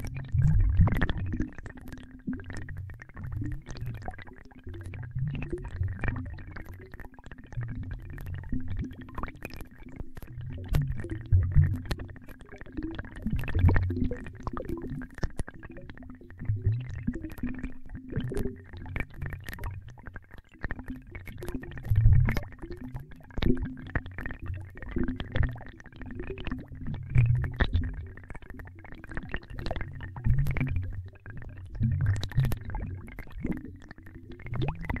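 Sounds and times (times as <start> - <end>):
deep gurgling bubbles: 0.0 - 35.0.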